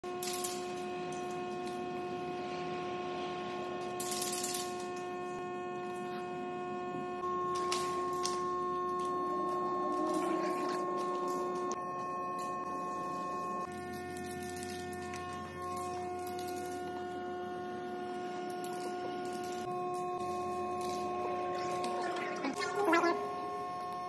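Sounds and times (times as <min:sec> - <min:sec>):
steady hum: 0:00.1 - 0:24.0.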